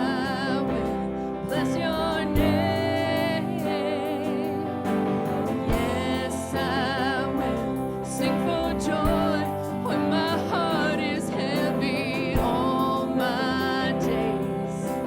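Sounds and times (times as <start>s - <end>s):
singer holding long notes: 0.0s - 15.0s
worship band playing slow song: 0.0s - 15.0s.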